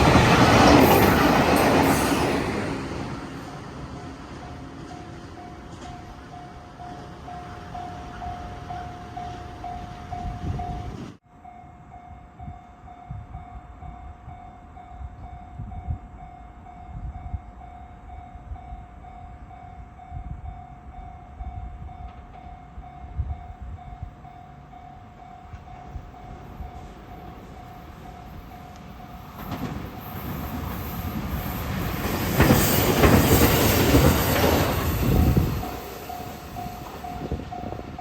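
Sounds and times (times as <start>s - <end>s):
train rumbling: 0.0s - 11.2s, 12.4s - 38.0s
level-crossing warning bell: 0.0s - 38.0s.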